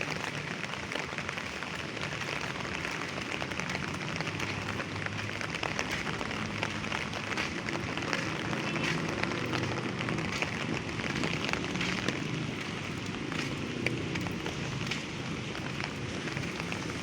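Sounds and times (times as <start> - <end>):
light rain falling: 0.0 - 17.0
raindrops ticking on surfaces: 0.0 - 17.0.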